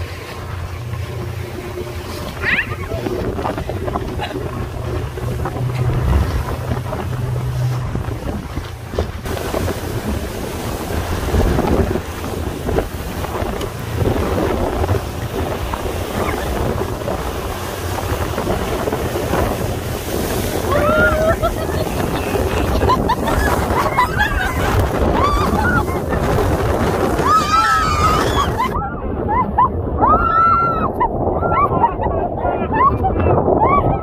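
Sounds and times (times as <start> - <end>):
low boat engine hum: 0.0 - 34.0
sea water wash: 0.0 - 34.0
wind buffeting microphone: 0.0 - 34.0.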